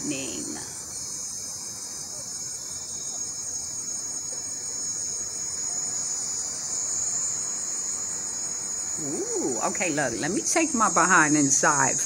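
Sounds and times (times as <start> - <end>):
crickets trilling: 0.0 - 12.0
pulsing insect trill: 0.0 - 12.0.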